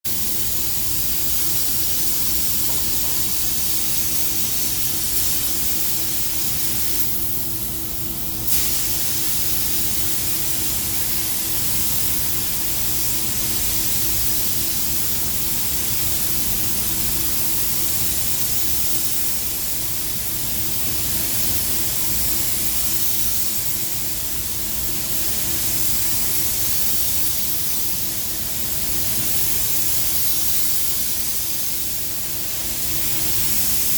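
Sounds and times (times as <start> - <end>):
spray gun hissing: 0.1 - 28.4.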